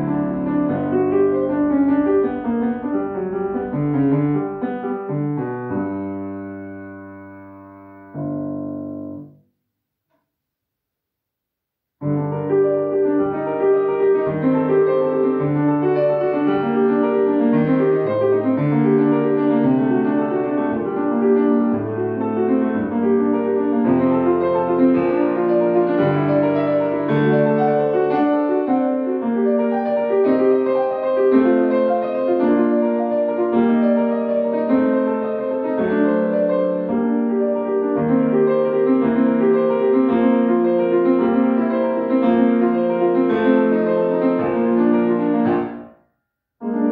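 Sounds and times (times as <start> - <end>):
solo grand piano: 0.0 - 9.4, 12.0 - 46.9.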